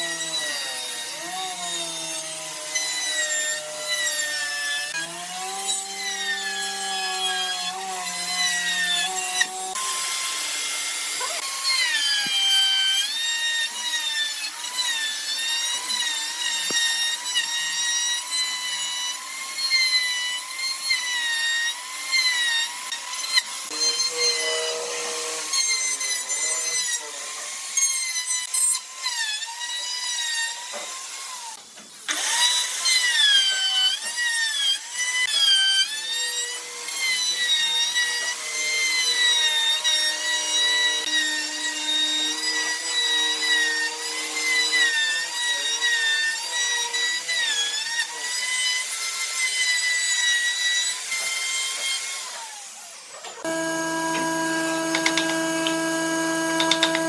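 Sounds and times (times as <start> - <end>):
power tool cutting wood: 0.0 - 57.0.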